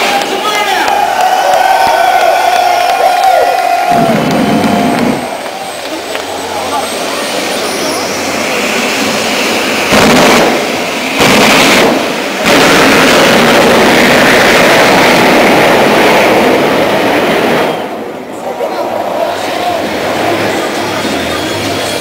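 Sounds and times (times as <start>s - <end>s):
jet engine blasting: 0.0s - 22.0s.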